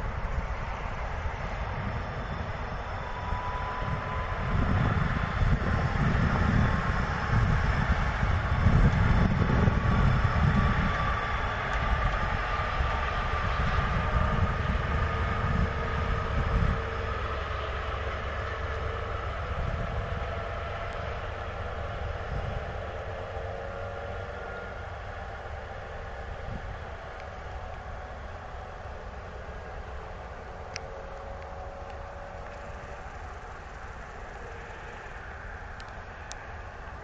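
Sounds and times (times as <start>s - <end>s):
locomotive diesel engine rumble: 0.0s - 37.0s.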